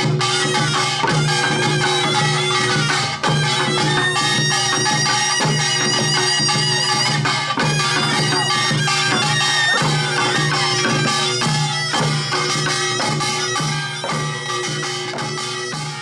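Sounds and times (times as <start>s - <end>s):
drums and gongs beating: 0.0s - 16.0s
shawm playing wavering melody: 0.0s - 16.0s.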